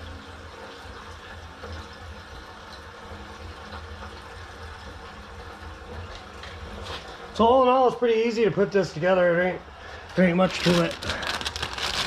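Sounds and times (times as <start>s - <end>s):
gasoline pouring into tank: 0.0s - 12.0s.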